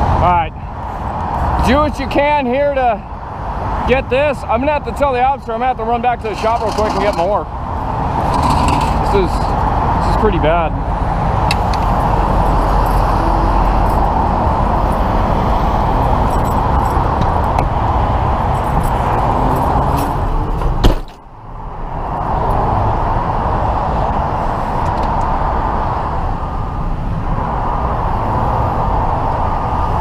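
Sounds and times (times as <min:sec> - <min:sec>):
freeway traffic rushing past: 0:00.0 - 0:30.0.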